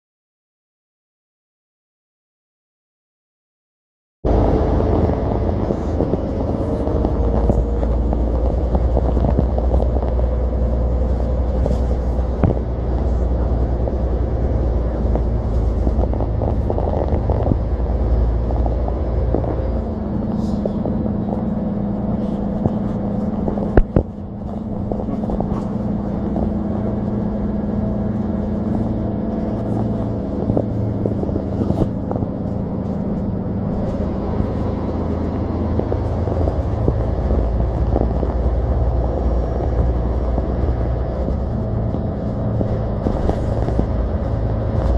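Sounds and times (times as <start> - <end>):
bus engine drone: 4.2 - 44.9
road rumble: 4.2 - 44.9.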